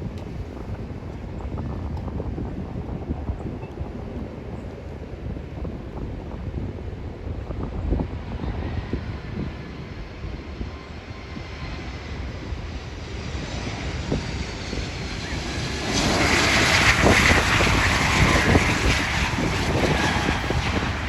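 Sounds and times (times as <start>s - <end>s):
jet airliner engines passing: 0.0s - 21.0s.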